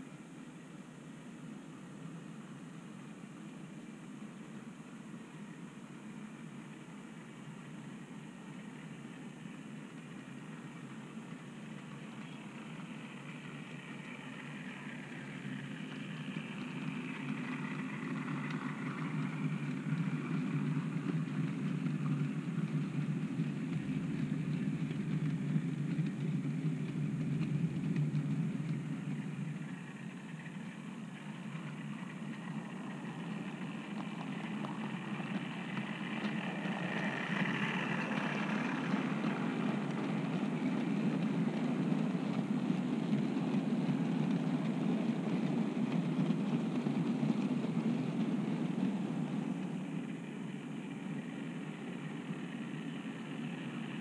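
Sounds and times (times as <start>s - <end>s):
model train running on track: 0.0s - 54.0s.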